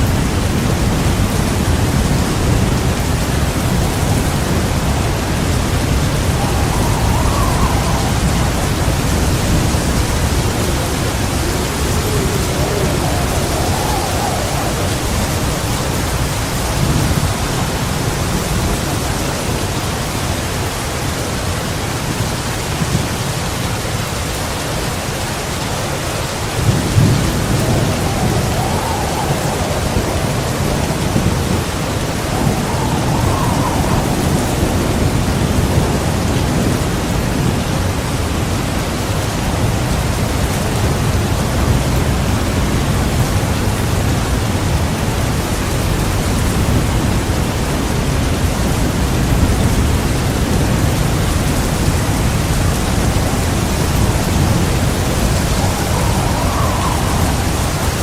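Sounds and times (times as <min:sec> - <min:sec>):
thunder rumbling: 0:00.0 - 0:20.4, 0:26.2 - 0:58.0
heavy rain pouring: 0:00.0 - 0:58.0.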